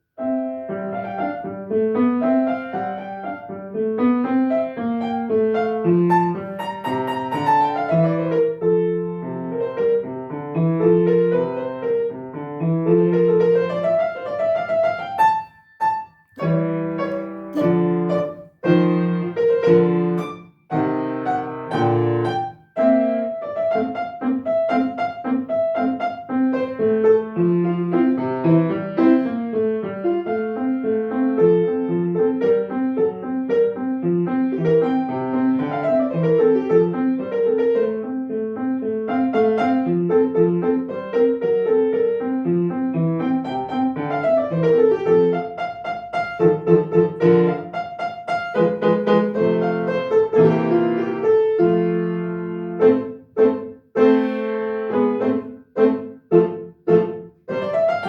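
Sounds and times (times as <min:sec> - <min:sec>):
solo classical piano: 0:00.0 - 0:58.0.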